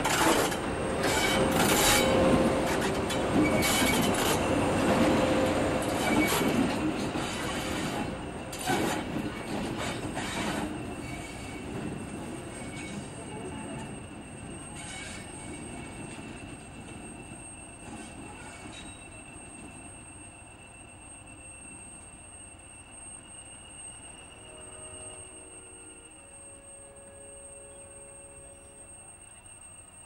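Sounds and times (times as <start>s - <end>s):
diesel locomotive engine running: 0.0s - 30.0s
train wheels rumbling on track: 0.0s - 30.0s.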